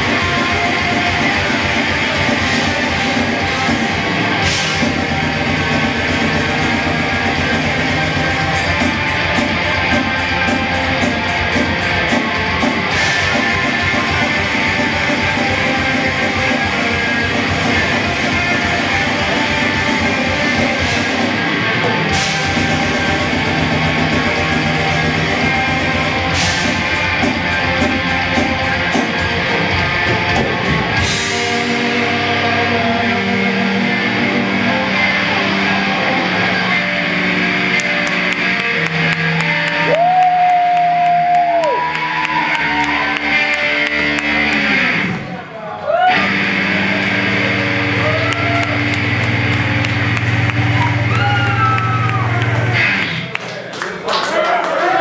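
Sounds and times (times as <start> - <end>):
live rock band playing: 0.0 - 53.4.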